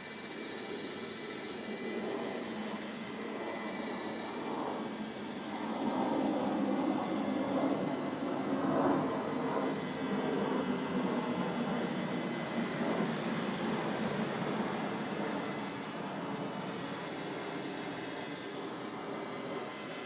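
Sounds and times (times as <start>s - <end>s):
robot vacuum running: 0.0s - 20.0s.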